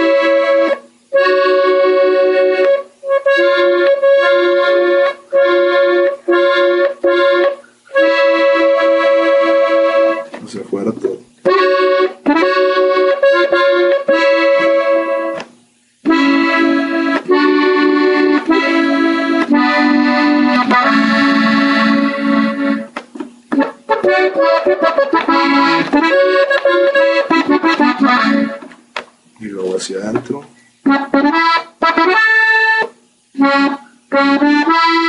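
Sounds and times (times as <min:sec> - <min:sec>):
button accordion melody: 0:00.0 - 0:28.8, 0:30.8 - 0:35.0.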